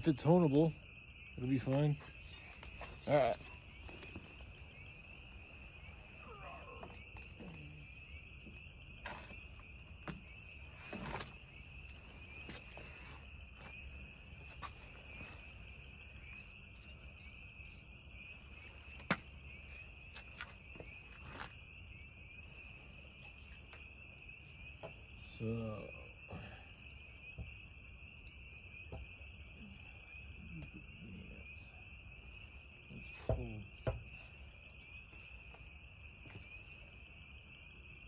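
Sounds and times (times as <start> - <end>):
crickets chirring: 0.0 - 38.0.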